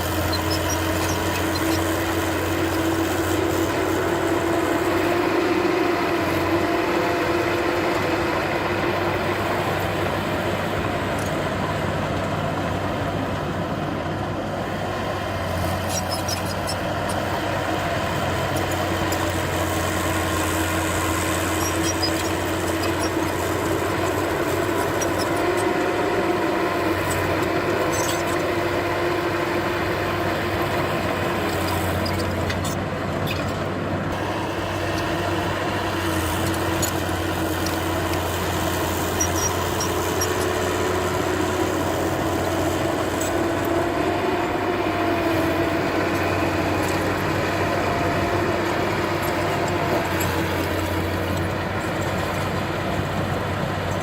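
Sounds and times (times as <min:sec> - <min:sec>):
heavy machinery diesel engine running: 0:00.0 - 0:54.0.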